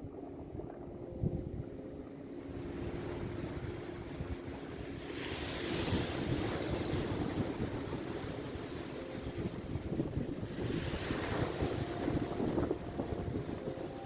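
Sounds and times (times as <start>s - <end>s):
sea waves washing onto beach: 0.0s - 14.0s
wind rumble on microphone: 0.0s - 14.0s.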